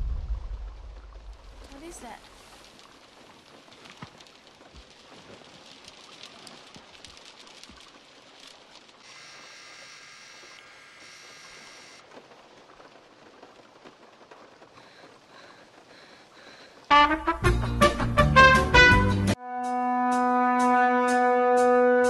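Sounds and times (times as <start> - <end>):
faint rain: 0.0 - 19.4.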